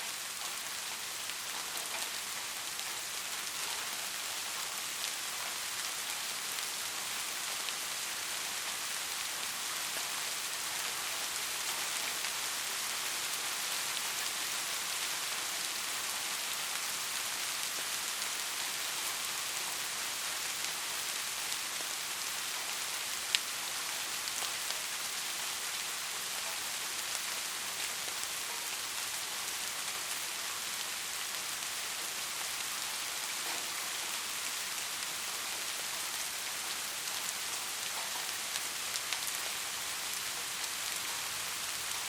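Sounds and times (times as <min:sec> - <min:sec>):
soft rain hissing: 0:00.0 - 0:42.0.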